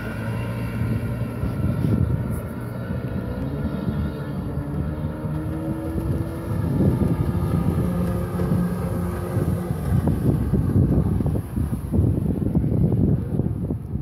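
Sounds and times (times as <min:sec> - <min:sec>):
water rushing: 0:00.0 - 0:12.6
motorboat engine running: 0:00.0 - 0:14.0
wind: 0:00.0 - 0:14.0.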